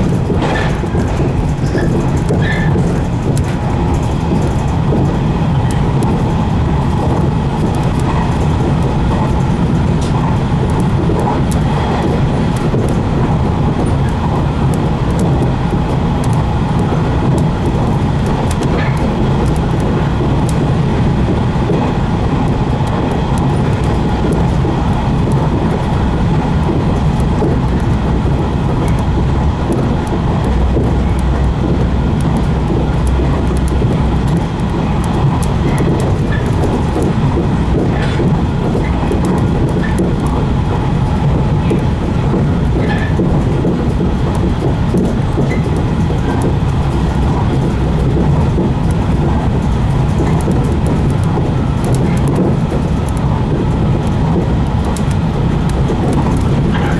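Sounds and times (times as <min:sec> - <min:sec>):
clicks over the track: 0:00.0 - 0:56.9
train wheels rumbling on rail: 0:00.0 - 0:56.9.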